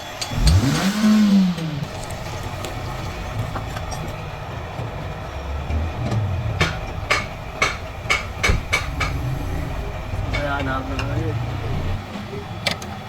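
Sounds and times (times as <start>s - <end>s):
low rumble: 1.8s - 12.6s.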